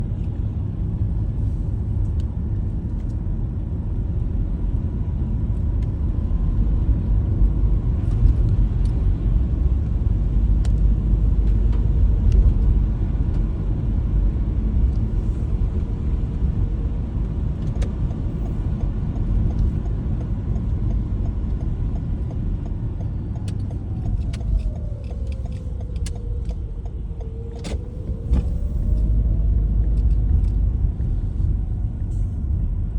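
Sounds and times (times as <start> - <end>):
tyres and engine rumbling: 0.0 - 32.9.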